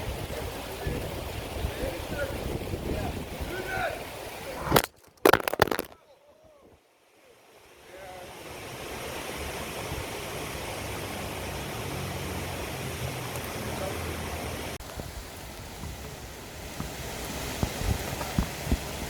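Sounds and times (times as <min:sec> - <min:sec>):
flowing river water: 0:00.0 - 0:19.0.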